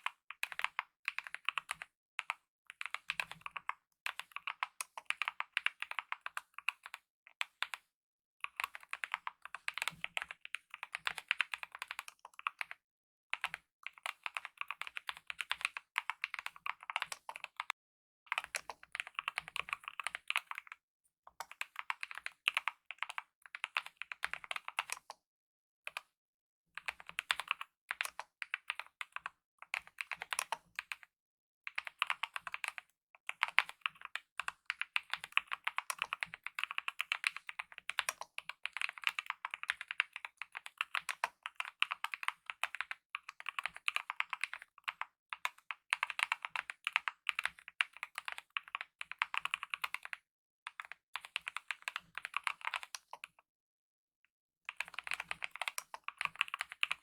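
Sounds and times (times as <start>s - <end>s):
mechanical keyboard typing: 2.8s - 7.0s, 8.6s - 12.7s, 13.4s - 17.7s, 18.3s - 20.7s, 21.4s - 25.2s, 26.8s - 31.0s, 31.7s - 53.3s, 54.7s - 57.0s.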